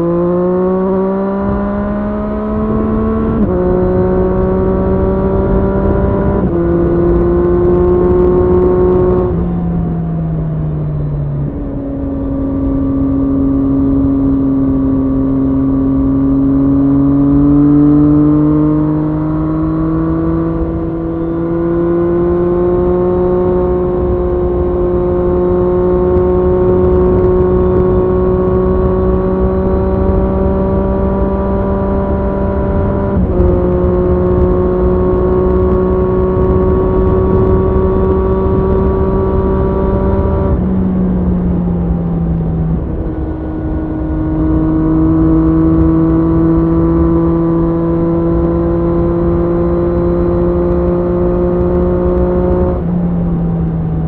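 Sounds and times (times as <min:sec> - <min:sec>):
motorcycle engine on the move: 0:00.0 - 0:54.0.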